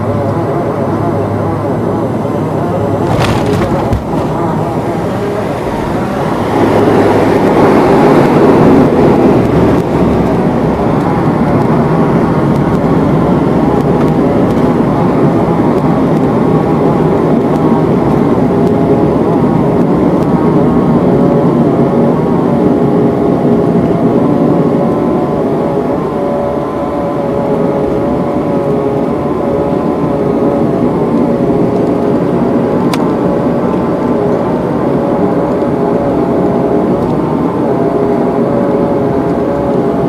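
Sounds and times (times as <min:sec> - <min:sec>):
airliner engines and propellers: 0:00.0 - 0:40.0.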